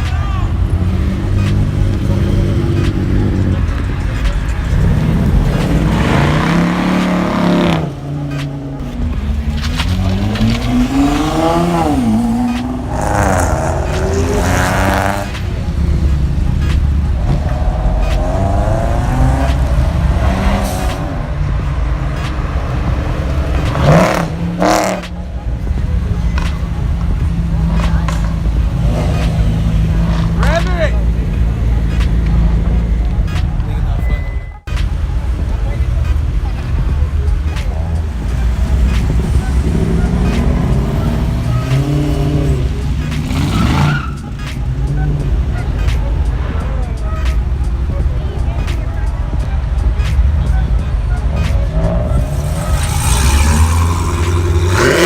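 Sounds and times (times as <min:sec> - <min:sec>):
car engines rumbling: 0:00.0 - 0:55.0.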